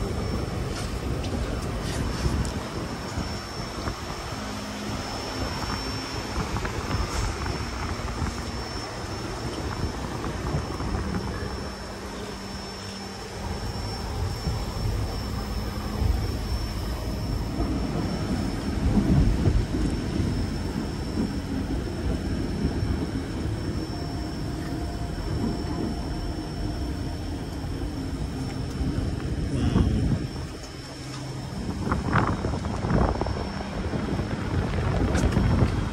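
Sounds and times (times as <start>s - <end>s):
train rumbling on track: 0.0s - 35.9s
wind buffeting microphone: 0.0s - 35.9s.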